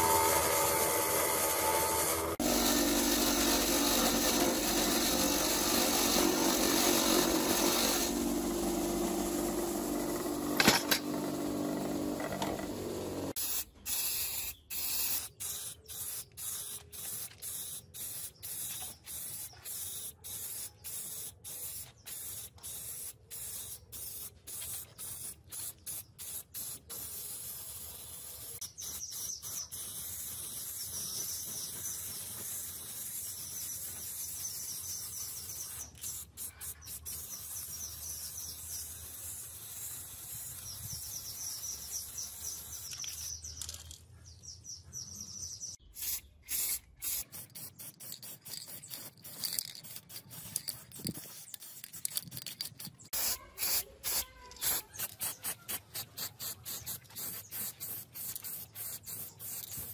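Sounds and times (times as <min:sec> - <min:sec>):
spray paint can hissing: 0:00.0 - 0:11.0, 0:11.7 - 0:44.0, 0:45.8 - 0:59.9.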